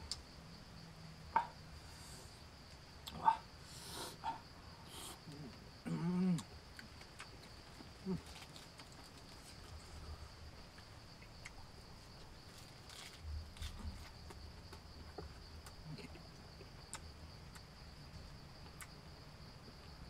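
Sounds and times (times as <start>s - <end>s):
crickets chirring: 0.0s - 20.0s
soft eating noise: 1.4s - 20.0s.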